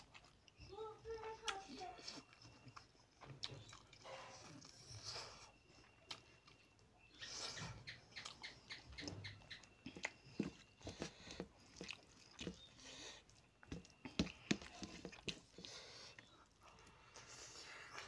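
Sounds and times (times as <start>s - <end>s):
fingers squelching through food: 0.0s - 18.0s
wet chewing and lip-smacking: 0.0s - 18.0s.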